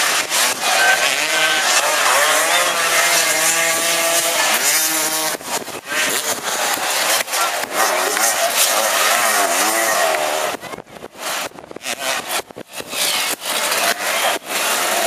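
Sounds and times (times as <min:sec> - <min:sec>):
racing engine revving: 0:00.0 - 0:15.0.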